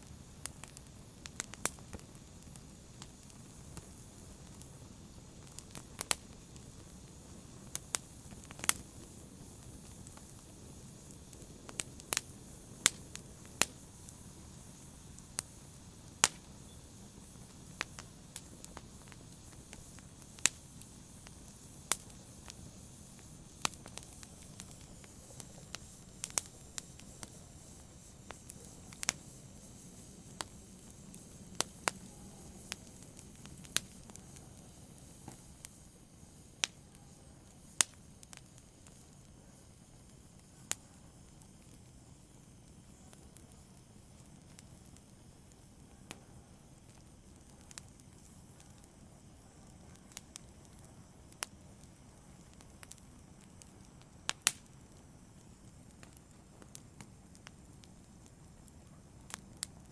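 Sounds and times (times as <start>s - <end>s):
faint hiss of flames: 0.0s - 59.9s
fire pops and snaps: 0.0s - 59.9s.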